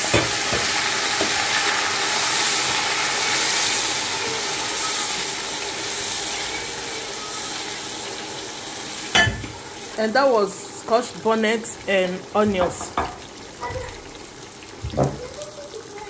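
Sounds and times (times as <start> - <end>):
peppers and onions sizzling in oil: 0.0 - 16.0.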